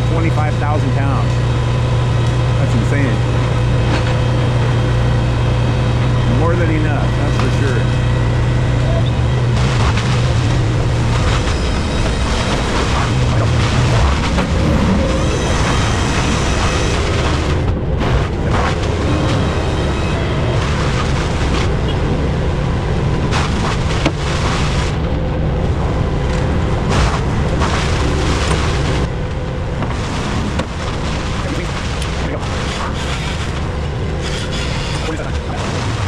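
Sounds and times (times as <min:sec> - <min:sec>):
crane knocks and clanks: 0:00.0 - 0:36.0
truck engine running: 0:00.0 - 0:36.0.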